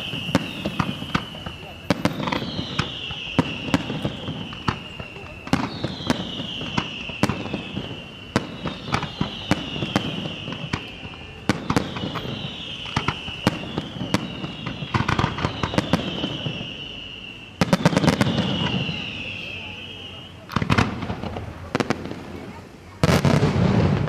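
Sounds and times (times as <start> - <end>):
falling high whistle: 0.0 - 20.5
firework cracks: 0.0 - 24.0
fireworks bangs: 0.0 - 24.0.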